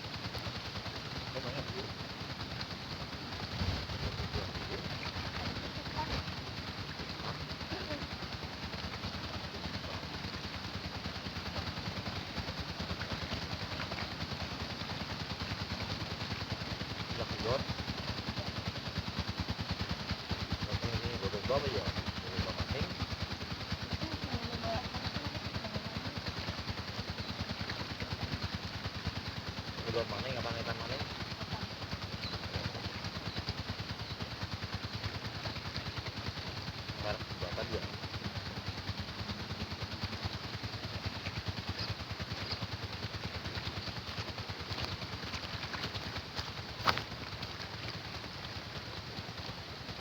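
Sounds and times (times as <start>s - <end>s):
small engine chugging: 0.0s - 50.0s.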